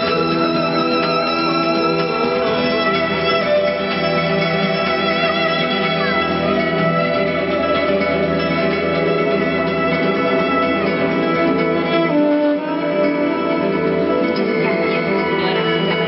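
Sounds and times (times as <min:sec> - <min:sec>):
strings playing long held notes: 0:00.0 - 0:16.0.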